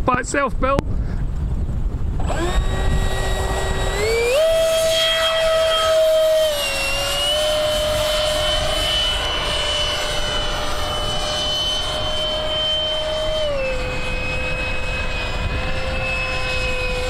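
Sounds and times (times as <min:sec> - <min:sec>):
model plane motor whining: 0:02.1 - 0:17.0.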